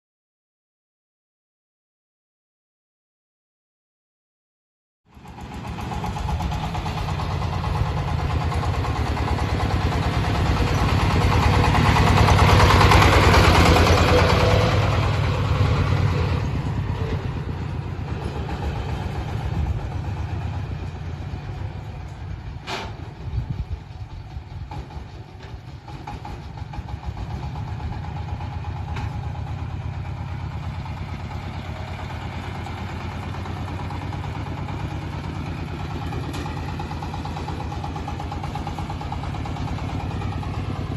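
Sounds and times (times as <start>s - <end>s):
diesel engine running: 5.1s - 40.9s.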